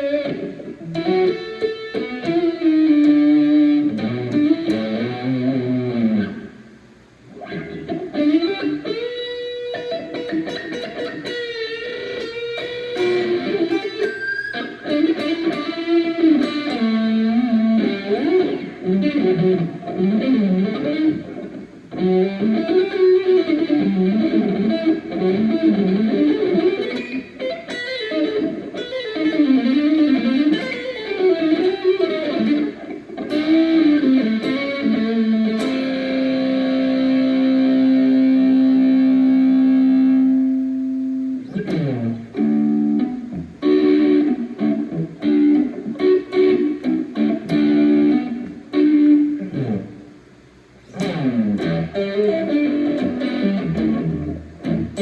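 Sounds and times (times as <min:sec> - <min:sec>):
electric guitar lead runs: 0:00.0 - 0:06.6, 0:07.3 - 0:55.0.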